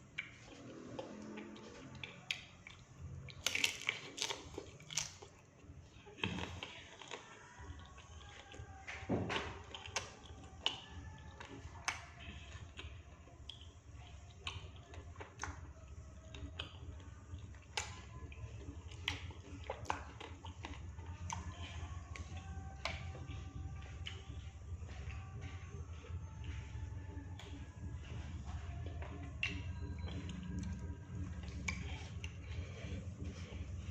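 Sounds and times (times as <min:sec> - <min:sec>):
person chewing food: 0:00.0 - 0:33.9
steady low hum: 0:00.0 - 0:33.9.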